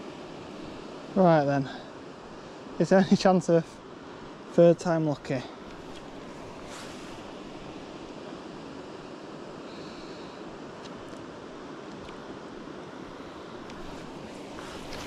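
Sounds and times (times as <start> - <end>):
river water rushing over shallows: 0.0 - 15.0.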